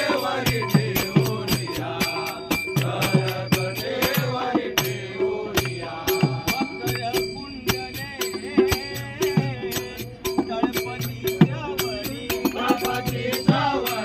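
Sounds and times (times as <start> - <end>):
hand drum: 0.0 - 13.7
hand cymbals striking: 0.0 - 14.0
voices singing: 0.0 - 14.0.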